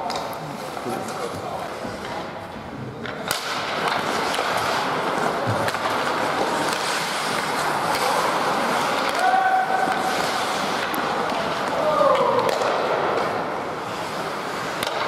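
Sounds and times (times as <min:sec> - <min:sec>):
ice rink noise: 0:00.0 - 0:15.0
skates scraping on ice: 0:00.0 - 0:15.0.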